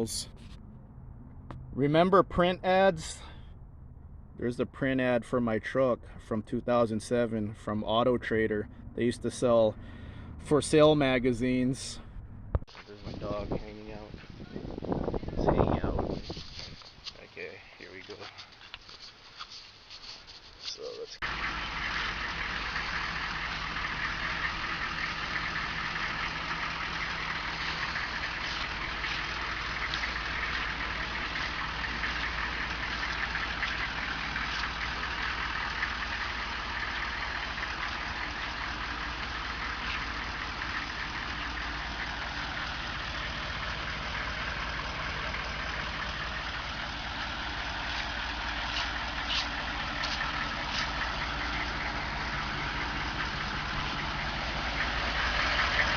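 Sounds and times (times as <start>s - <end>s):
diesel truck engine idling: 0.0s - 16.1s, 21.1s - 55.9s.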